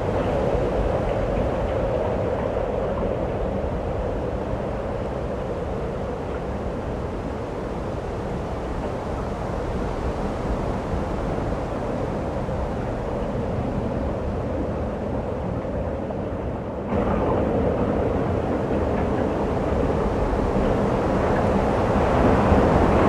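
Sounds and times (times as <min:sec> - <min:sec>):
rumbling snowstorm wind: 0:00.0 - 0:23.0.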